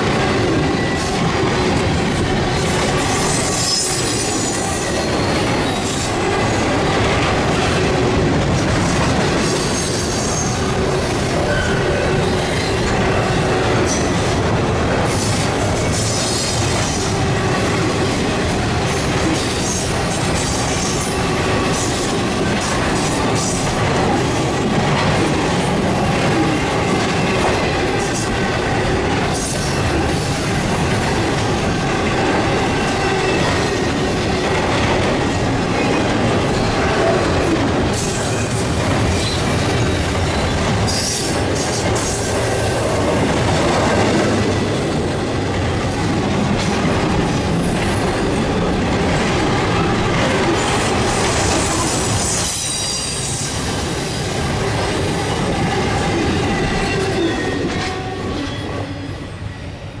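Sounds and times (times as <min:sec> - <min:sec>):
train wheels rumbling and clacking: 0:00.0 - 1:00.0.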